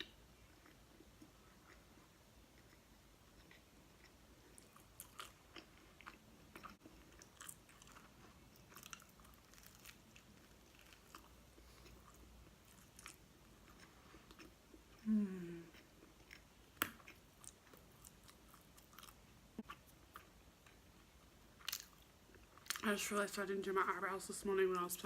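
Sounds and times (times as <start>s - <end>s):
person chewing food: 0.0s - 22.8s.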